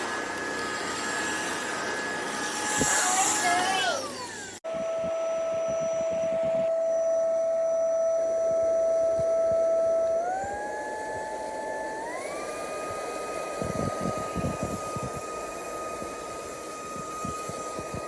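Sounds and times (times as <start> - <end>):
vacuum motor whine: 0.0 - 18.0.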